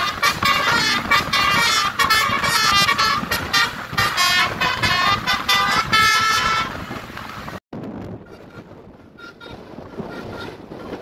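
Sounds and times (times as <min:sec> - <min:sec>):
air horn melody: 0:00.0 - 0:06.9, 0:08.2 - 0:11.0
bus engine running: 0:00.0 - 0:11.0.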